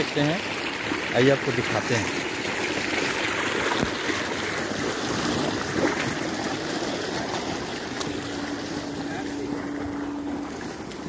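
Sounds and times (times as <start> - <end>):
water rushing along channel: 0.0 - 11.0.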